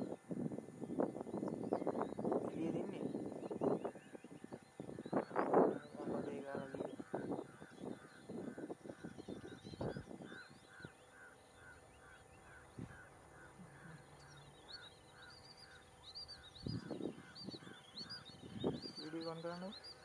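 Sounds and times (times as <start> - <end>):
higher bird chirps: 0.8 - 20.0.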